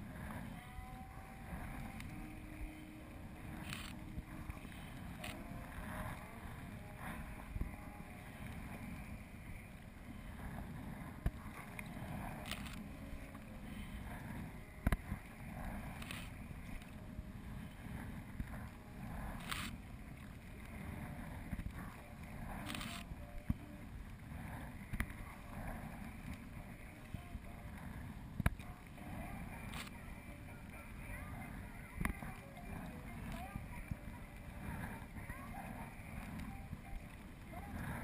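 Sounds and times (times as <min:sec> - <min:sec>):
low rush of wind and water: 0:00.0 - 0:38.0.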